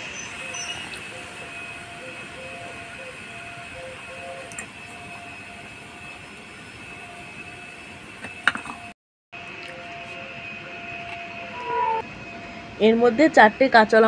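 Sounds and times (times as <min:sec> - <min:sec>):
mechanical drone: 0:00.0 - 0:14.0.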